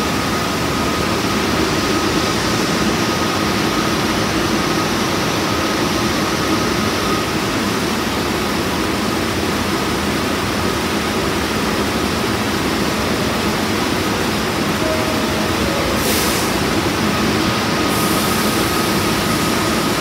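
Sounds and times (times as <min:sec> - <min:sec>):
subway train air-conditioning running: 0:00.0 - 0:20.0.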